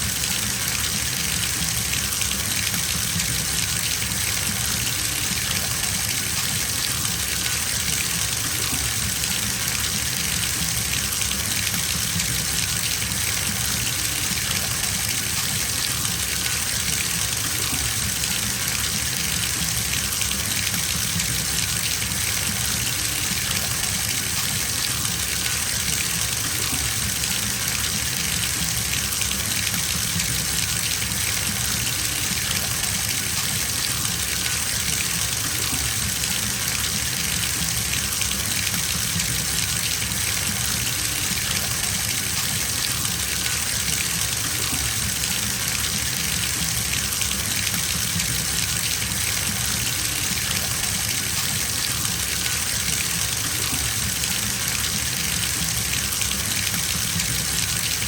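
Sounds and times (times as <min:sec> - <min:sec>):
tap water gushing into tub: 0:00.0 - 0:58.0.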